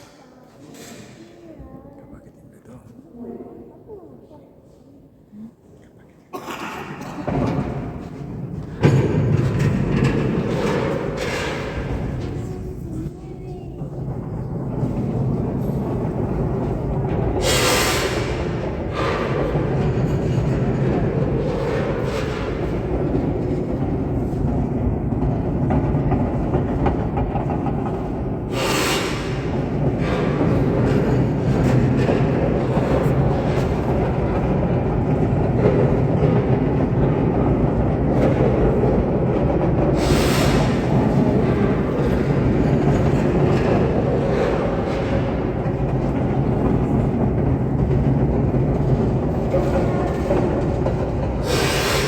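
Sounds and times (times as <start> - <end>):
rotating structure rumbling on rails: 6.9 - 52.0.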